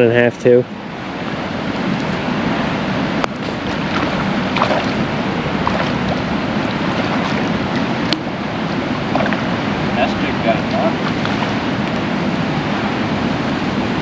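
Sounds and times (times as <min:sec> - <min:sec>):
creek current rushing: 0:00.0 - 0:14.0.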